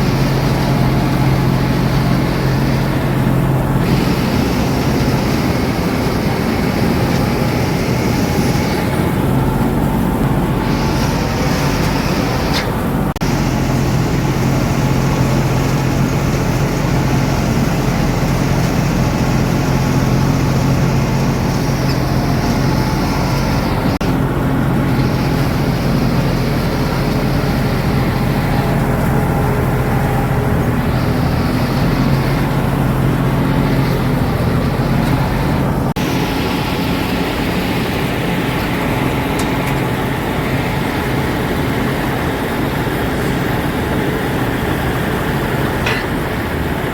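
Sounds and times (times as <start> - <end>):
combine harvester droning: 0.0 - 46.9
constant machine hiss: 0.0 - 46.9.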